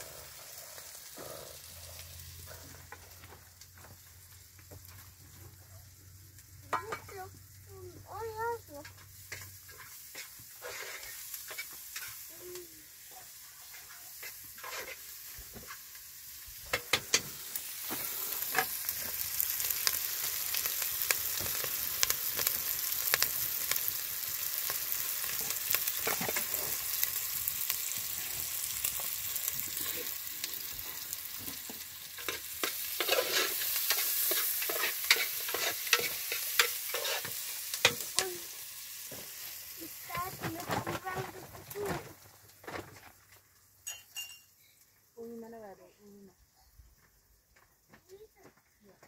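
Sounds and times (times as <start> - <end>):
food frying in oil: 0.0 - 46.3.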